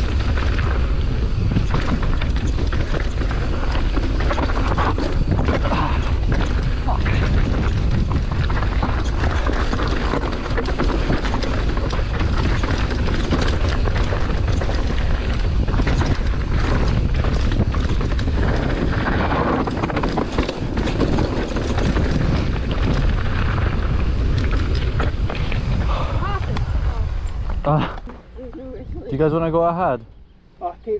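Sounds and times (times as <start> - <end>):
bike rattling over rocks: 0.0 - 26.6
wind buffeting microphone: 0.0 - 30.9.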